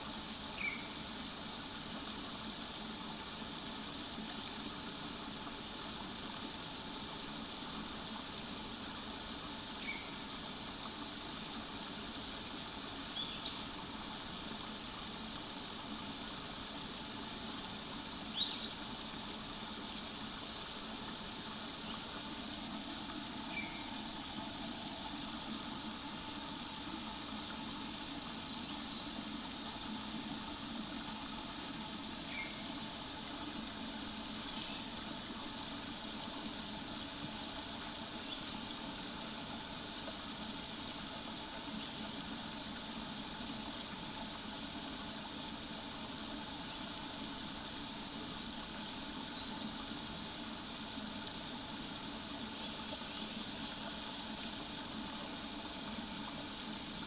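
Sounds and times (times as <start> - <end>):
creek water babbling over rocks: 0.0 - 57.0.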